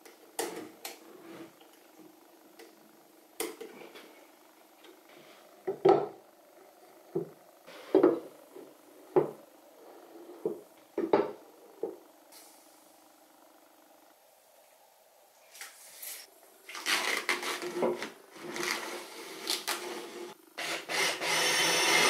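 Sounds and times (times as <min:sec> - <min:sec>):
faint low hum: 0:00.0 - 0:20.5.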